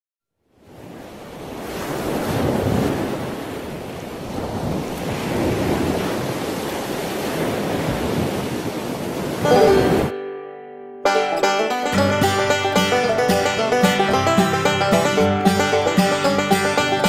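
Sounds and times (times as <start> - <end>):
ocean waves rushing: 0.6 - 10.2, 11.2 - 17.0.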